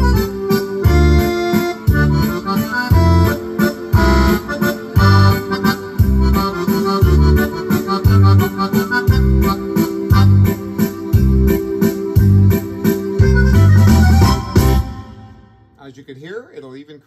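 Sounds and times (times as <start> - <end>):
accordion waltz melody: 0.0 - 15.4
bass notes: 0.0 - 15.4
chords: 0.0 - 15.8
light drum pattern: 0.0 - 16.3.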